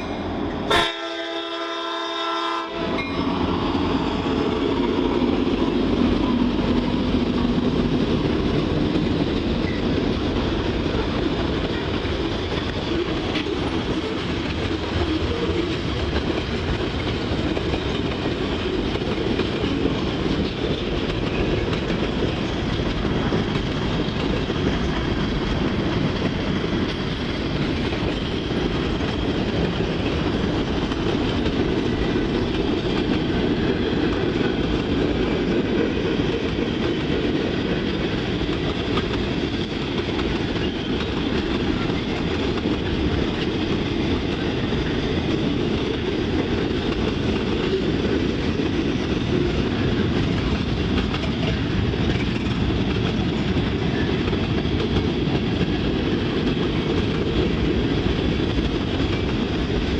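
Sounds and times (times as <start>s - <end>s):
steel wheels rolling on rails: 2.9s - 59.9s.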